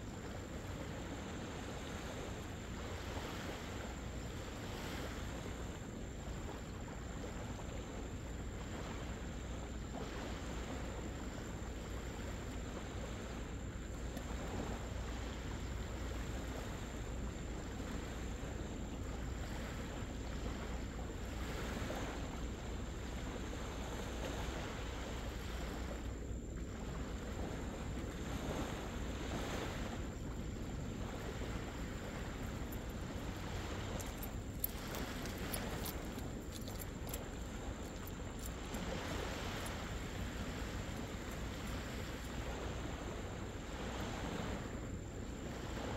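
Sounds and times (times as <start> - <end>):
small waves washing on sand: 0.0 - 45.9
wind rumble on microphone: 0.0 - 45.9.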